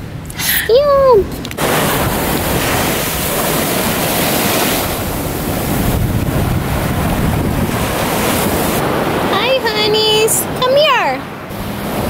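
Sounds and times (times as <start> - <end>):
wind rumbling on microphone: 0.0 - 12.0
surf breaking over rocks: 1.6 - 12.0.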